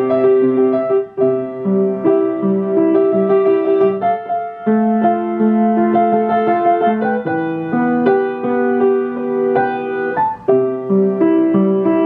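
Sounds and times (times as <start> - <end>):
grand piano solo: 0.0 - 12.0.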